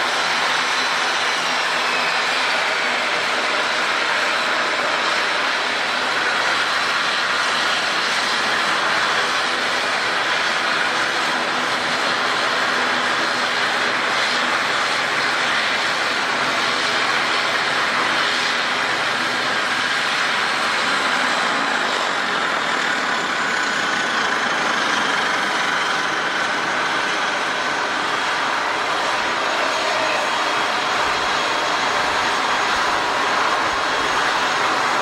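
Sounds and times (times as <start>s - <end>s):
aircraft turbine engines running: 0.0s - 35.0s.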